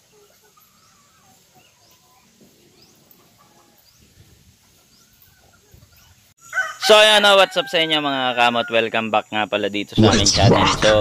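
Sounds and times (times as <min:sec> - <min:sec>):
farmyard ambience: 0:00.0 - 0:11.0.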